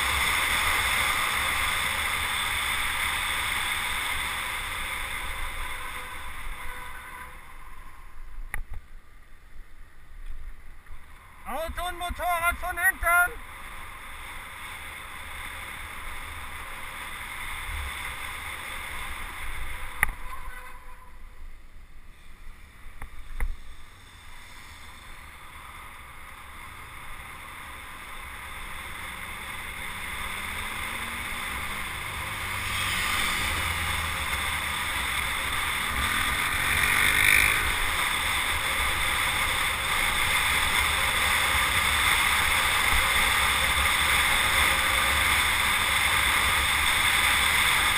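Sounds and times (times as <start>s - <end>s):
road noise: 0.0s - 47.9s.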